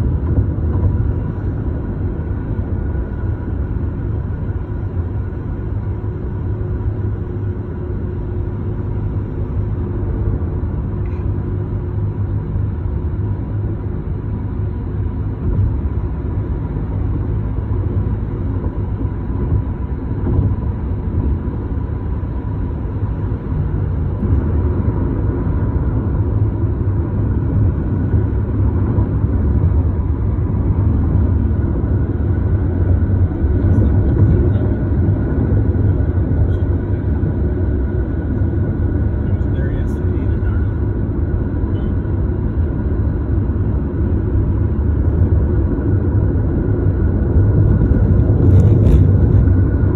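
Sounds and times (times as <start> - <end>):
tyre and engine rumble in car: 0.0 - 49.9.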